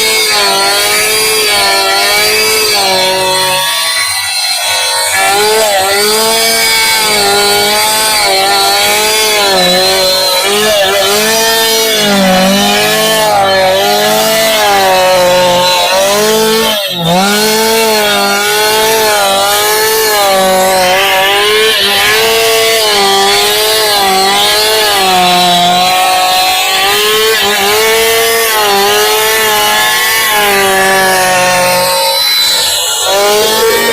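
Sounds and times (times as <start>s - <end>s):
chainsaw cutting timber: 0.0s - 33.9s.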